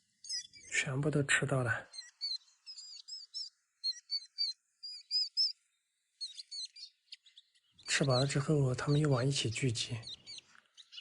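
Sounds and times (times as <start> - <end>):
young birds chirping: 0.0 - 11.0.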